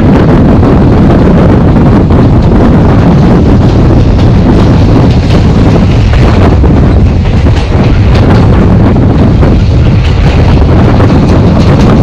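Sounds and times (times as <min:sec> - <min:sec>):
train coaches rumbling on track: 0:00.0 - 0:12.0
wind buffeting microphone: 0:00.0 - 0:12.0.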